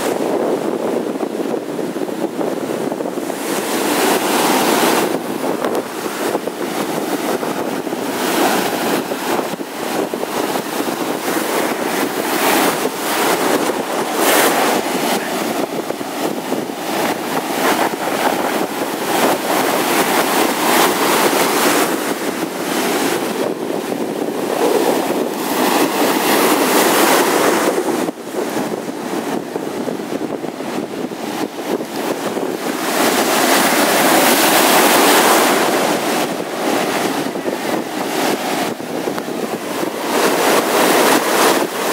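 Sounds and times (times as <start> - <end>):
surf breaking on sandy shore: 0.0 - 41.9.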